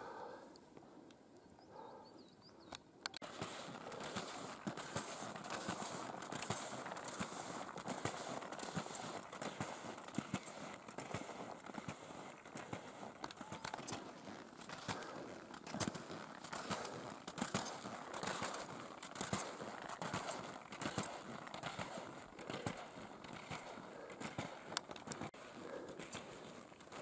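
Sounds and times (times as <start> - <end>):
skis crunching on snow: 3.2 - 27.0.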